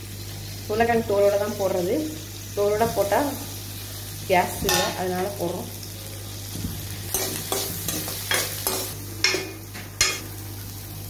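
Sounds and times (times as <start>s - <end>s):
sizzle of frying in oil: 0.0s - 11.0s.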